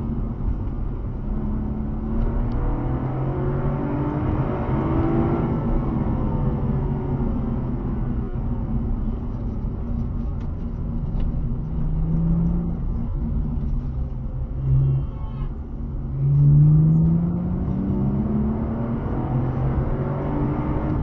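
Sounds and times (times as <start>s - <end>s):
car engine accelerating: 0.0s - 14.8s, 15.8s - 21.0s
tyre and road noise: 0.0s - 21.0s.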